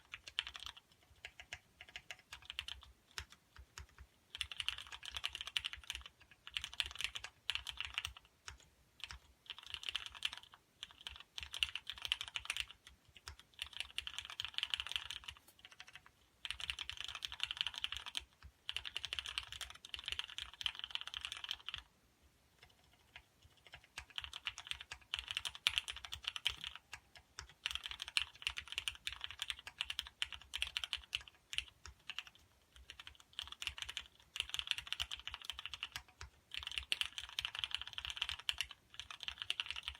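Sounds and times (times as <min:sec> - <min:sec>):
typing on mechanical keyboard: 0:00.0 - 0:21.9, 0:22.5 - 0:39.9.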